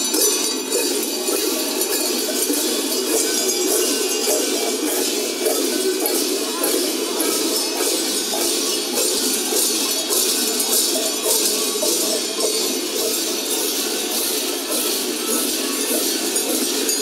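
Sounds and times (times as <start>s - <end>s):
cowbells clanging rhythmically: 0.0s - 17.0s.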